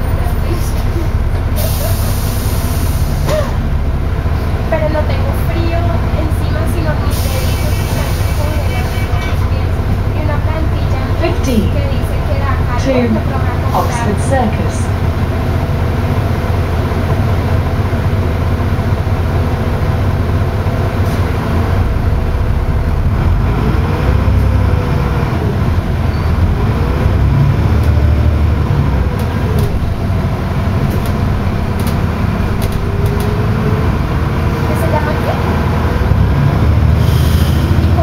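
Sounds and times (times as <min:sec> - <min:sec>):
bus engine droning: 0:00.0 - 0:38.0.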